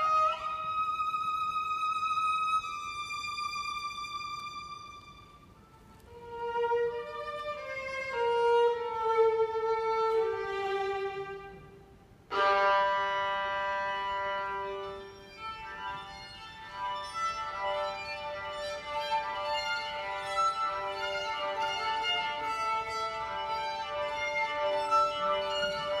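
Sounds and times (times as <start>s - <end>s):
solo violin melody: 0.0s - 26.0s.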